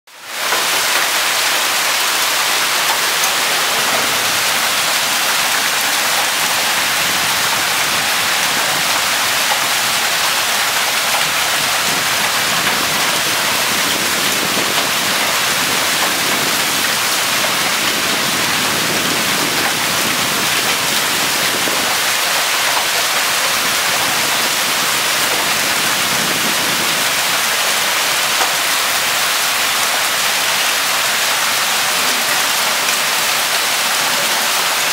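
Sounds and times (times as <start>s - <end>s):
heavy hail and rain: 0.1s - 34.9s.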